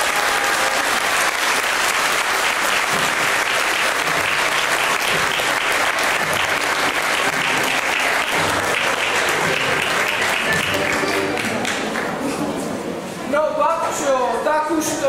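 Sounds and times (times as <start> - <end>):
audience clapping: 0.0 - 12.4.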